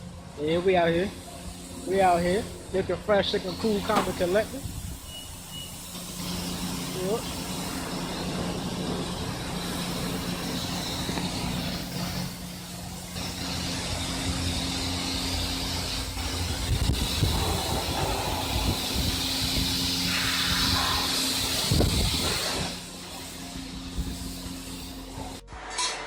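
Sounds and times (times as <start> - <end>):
pressure washer humming: 0.0 - 25.5
water spraying hiss: 0.4 - 25.4.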